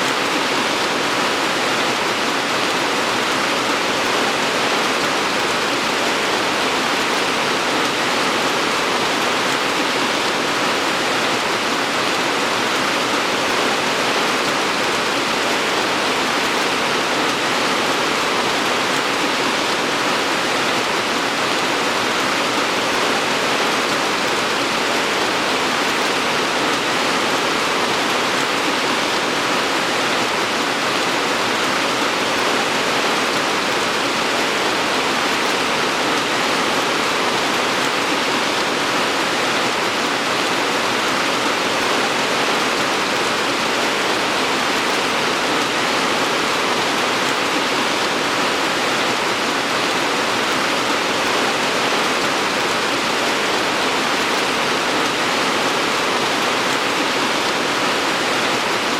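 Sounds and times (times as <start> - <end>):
heavy rainfall: 0.0 - 58.9.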